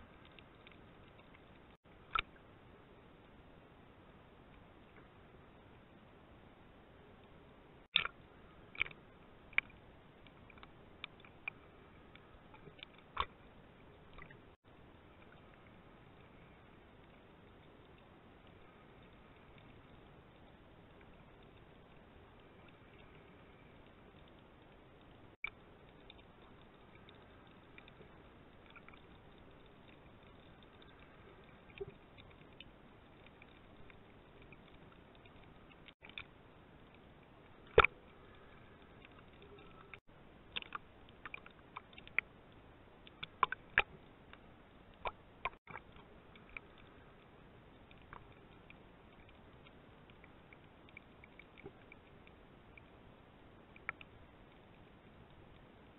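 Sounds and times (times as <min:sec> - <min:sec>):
faint underwater hiss: 0:00.0 - 0:55.9.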